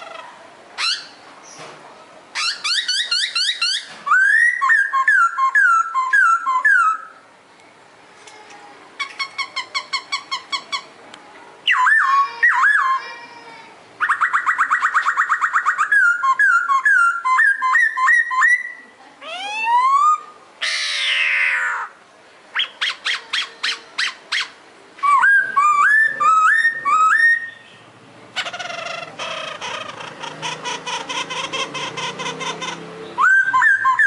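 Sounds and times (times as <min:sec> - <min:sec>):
songbird singing: 0:00.0 - 0:01.7, 0:02.3 - 0:13.3, 0:14.0 - 0:21.9, 0:22.5 - 0:34.0.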